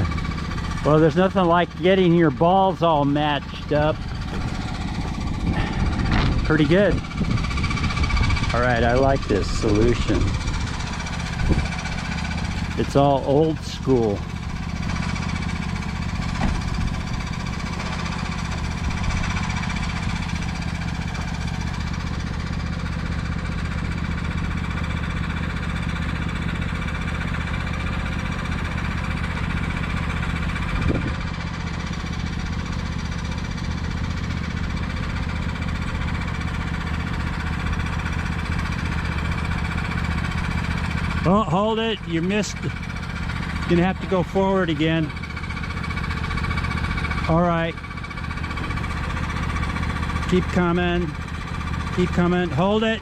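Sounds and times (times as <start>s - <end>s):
vehicle engine idling: 0.0s - 53.0s.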